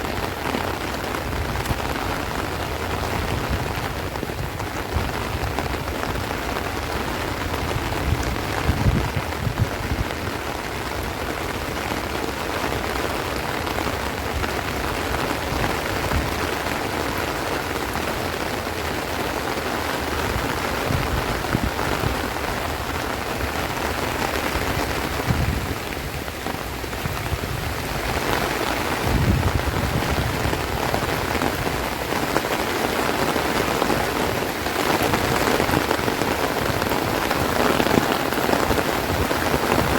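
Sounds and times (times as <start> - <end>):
heavy rain on plants: 0.0 - 39.9
low rumbles of wind gusts: 0.0 - 39.9.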